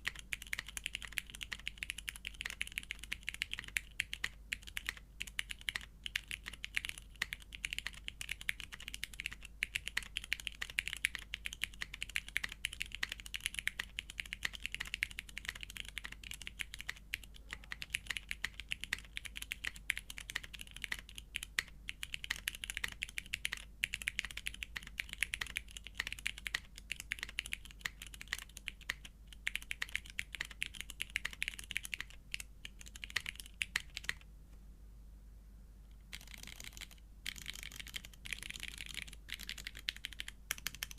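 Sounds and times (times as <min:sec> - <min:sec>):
mechanical keyboard typing: 0:00.0 - 0:34.3, 0:36.1 - 0:40.9.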